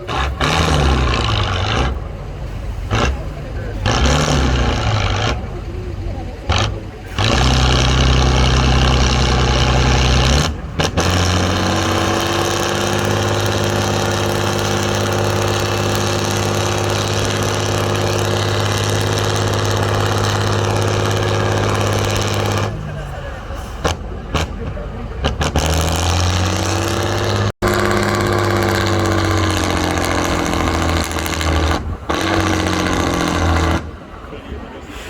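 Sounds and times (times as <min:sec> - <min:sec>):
heavy truck engine running: 0:00.0 - 0:35.0.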